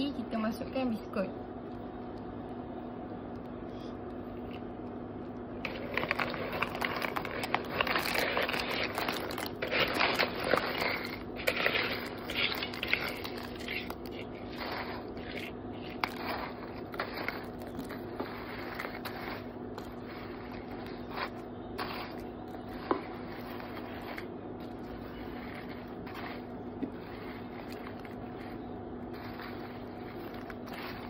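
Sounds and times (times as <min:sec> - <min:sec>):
steady low hum: 0:00.0 - 0:31.0
biscuits crunching and snapping: 0:01.6 - 0:31.0.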